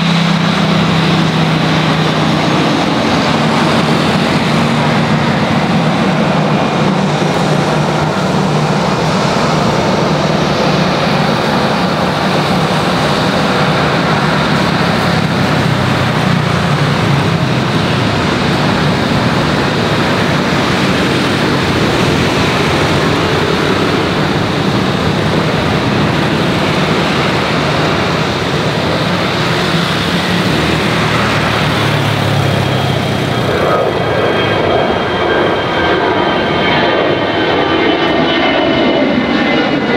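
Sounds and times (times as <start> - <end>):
jet airliner engines running: 0.0 - 39.9.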